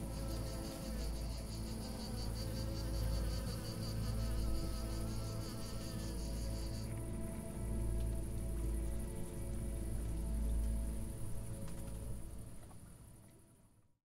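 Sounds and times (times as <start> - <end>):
cricket chirping: 0.0 - 13.7.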